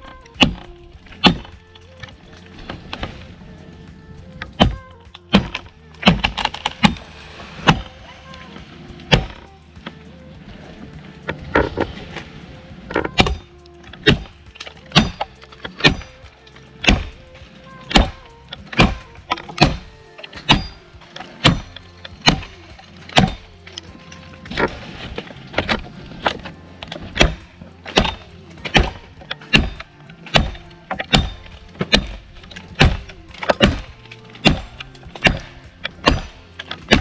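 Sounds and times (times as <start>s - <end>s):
blade chopping tree limb: 0.3s - 3.3s, 4.4s - 10.0s, 12.9s - 37.0s.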